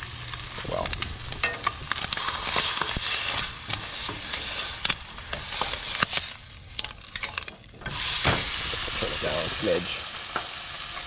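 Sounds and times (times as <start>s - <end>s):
fat popping and crackling: 0.0s - 11.0s
meat sizzling in a frying pan: 0.0s - 11.0s.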